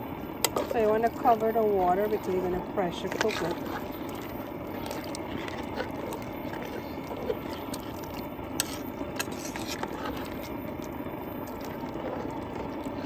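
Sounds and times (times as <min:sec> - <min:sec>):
metal spoon stirring in pot: 0:00.4 - 0:13.0.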